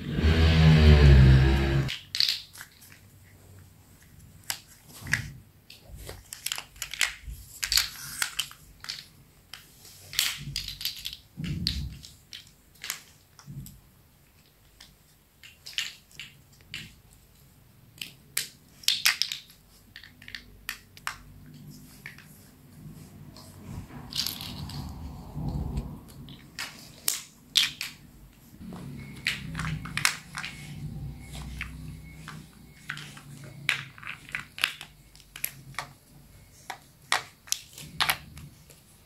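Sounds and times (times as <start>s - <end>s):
plastic building blocks clicking: 1.9s - 3.0s, 4.4s - 22.4s, 24.1s - 24.9s, 26.1s - 28.5s, 29.2s - 38.9s.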